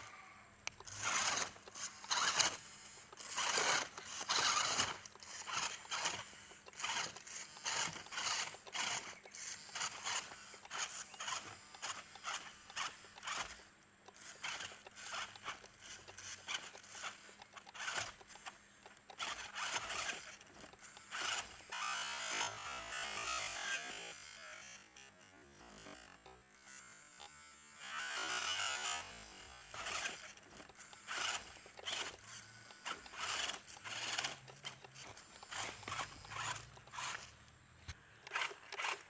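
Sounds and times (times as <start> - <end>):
rc truck tyres scraping and crunching: 0.0 - 26.4, 27.1 - 39.0.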